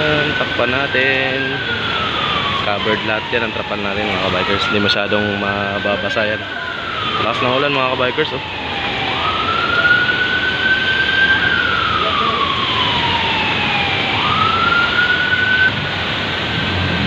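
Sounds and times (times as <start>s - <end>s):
rain hissing: 0.0s - 17.0s
siren wailing: 0.0s - 17.0s
traffic: 0.0s - 17.0s.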